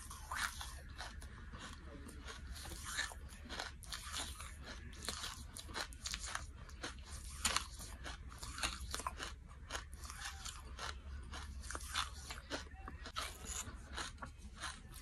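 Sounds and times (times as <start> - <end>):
chewing crunchy charcoal: 0.0 - 15.0
steady low hum: 0.0 - 15.0.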